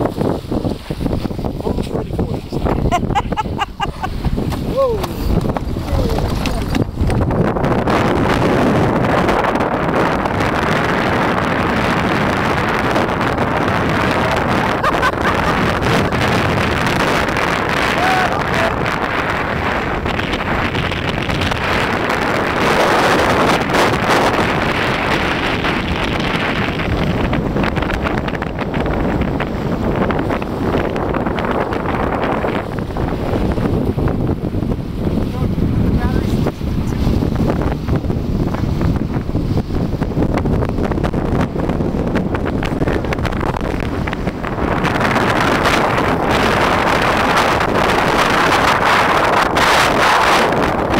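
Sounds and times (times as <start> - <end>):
water rushing along hull: 0.0 - 50.9
wind buffeting microphone: 0.0 - 50.9.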